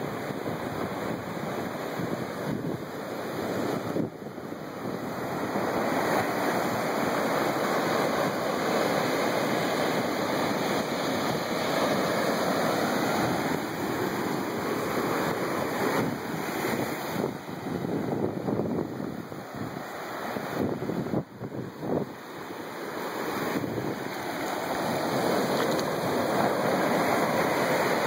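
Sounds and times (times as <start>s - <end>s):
ocean surf breaking on rocks: 0.0s - 28.0s.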